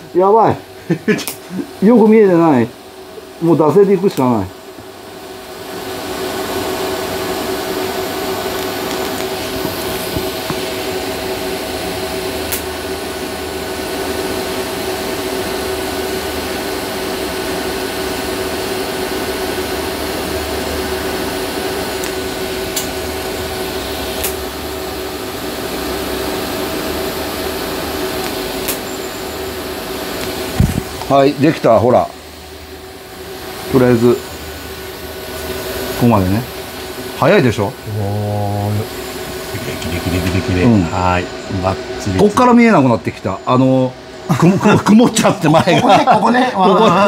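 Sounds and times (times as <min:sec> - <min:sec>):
welding arc hissing: 0:00.0 - 0:42.6
constant hum: 0:00.0 - 0:47.0.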